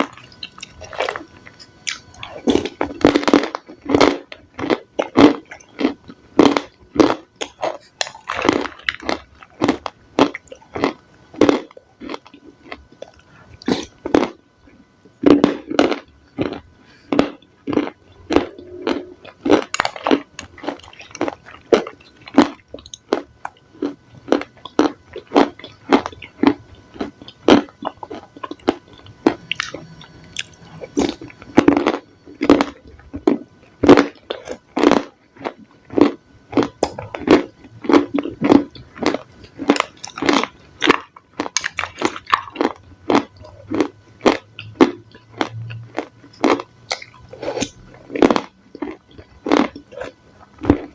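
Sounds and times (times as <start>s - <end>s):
person chewing crunchy salad: 0.0s - 50.9s.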